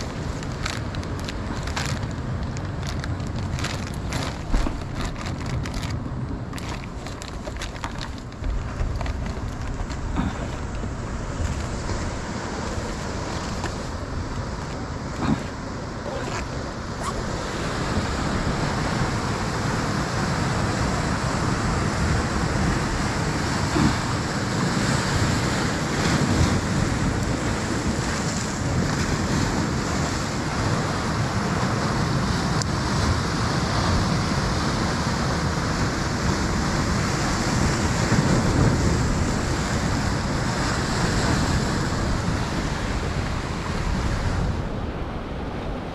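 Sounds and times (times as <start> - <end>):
ocean surf washing onto beach: 0.0 - 45.9
wind buffeting microphone: 0.0 - 45.9.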